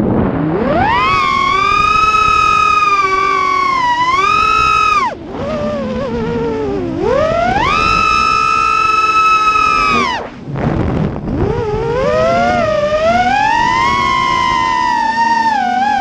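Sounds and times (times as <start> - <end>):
rush of air: 0.0 - 15.5
quadcopter motors whining: 0.4 - 10.5, 11.2 - 16.0.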